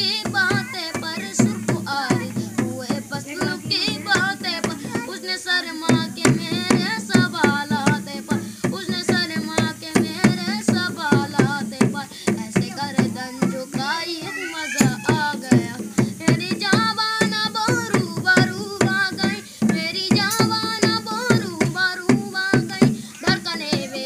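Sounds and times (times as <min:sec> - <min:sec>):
boy singing: 0:00.0 - 0:24.0
hand drum beating: 0:00.0 - 0:24.0.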